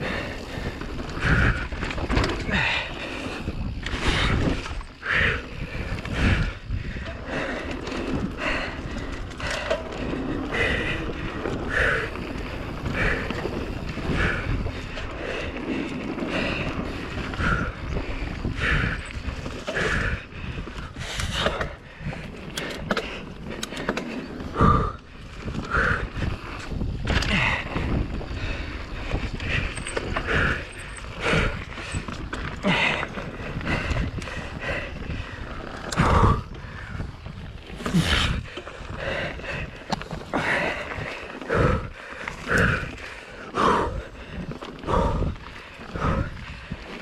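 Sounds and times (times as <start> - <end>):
bike rattling and knocking: 0.0 - 47.0
bike tyres rumbling over rough ground: 0.0 - 47.0
wind buffeting microphone: 0.0 - 47.0.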